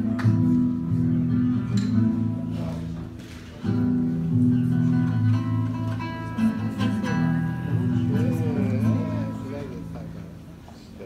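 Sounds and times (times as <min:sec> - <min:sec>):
acoustic guitar chords: 0:00.0 - 0:10.6.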